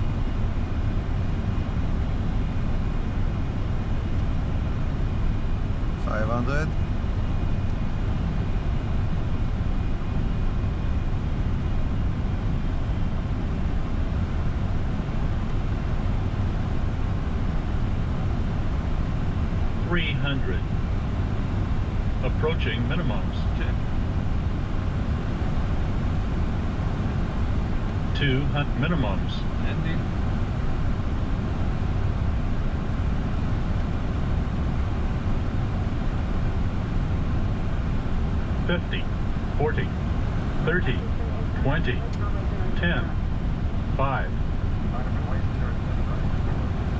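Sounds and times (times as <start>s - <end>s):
jet engines rumbling: 0.0s - 46.9s.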